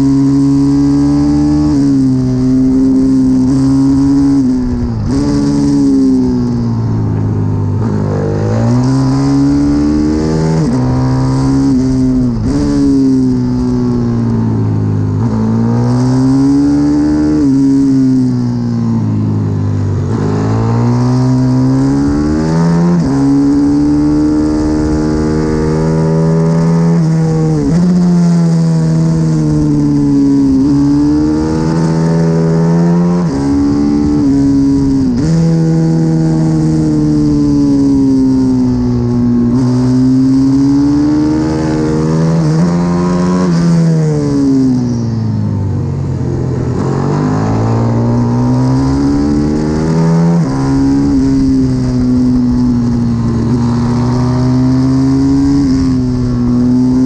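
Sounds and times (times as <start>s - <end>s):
pit bike engine accelerating: 0.0s - 57.0s.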